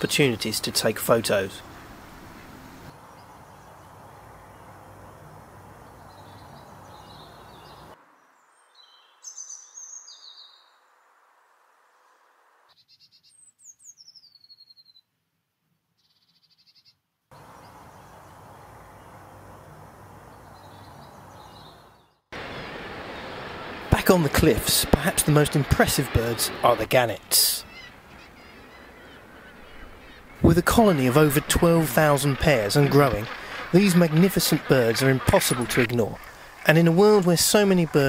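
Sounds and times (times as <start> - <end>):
songbirds chirping: 0.0 - 11.2, 11.8 - 15.1, 16.0 - 38.0
background hiss: 0.0 - 12.7, 17.4 - 38.0.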